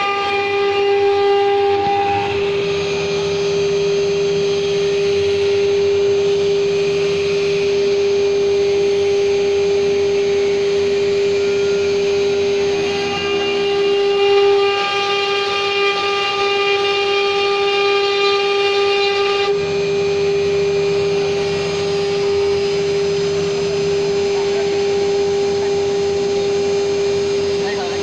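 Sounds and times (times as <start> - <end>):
lower hum: 0.0 - 28.0
router spindle whining: 0.0 - 28.0.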